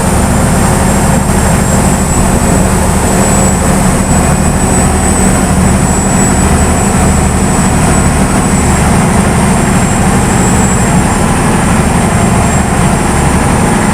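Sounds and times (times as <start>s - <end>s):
boat engine running: 0.0s - 13.9s
rushing water noise: 0.0s - 13.9s
thin high whine: 0.0s - 13.9s.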